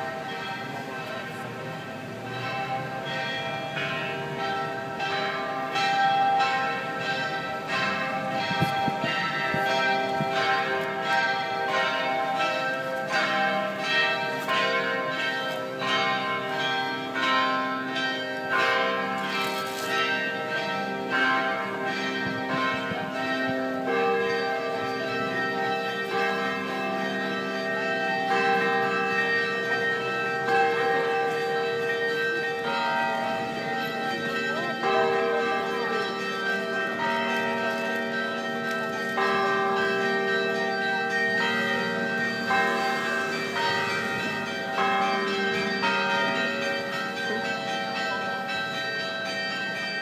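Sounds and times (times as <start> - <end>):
church bells ringing: 0.0 - 50.0.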